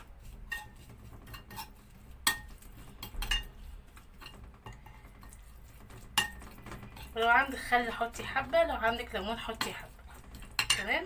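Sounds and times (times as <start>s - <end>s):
utensils clinking against a dish: 0.0s - 11.0s.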